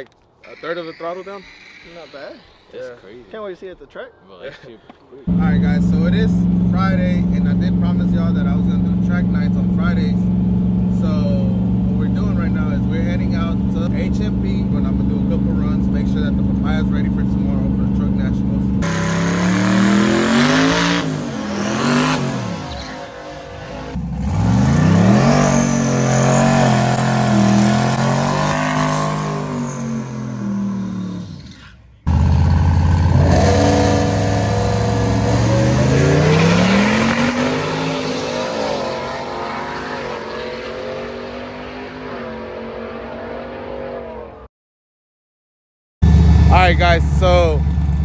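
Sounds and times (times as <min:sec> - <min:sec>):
truck engine revving: 0:05.3 - 0:44.2
truck accelerating through gears: 0:05.3 - 0:44.4.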